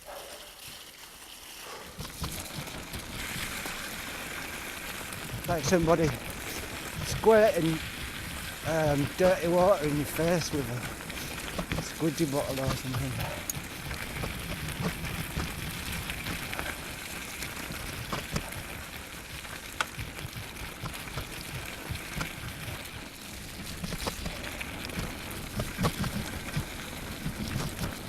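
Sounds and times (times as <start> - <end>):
bicycle tyres rolling through slush: 0.0 - 28.0.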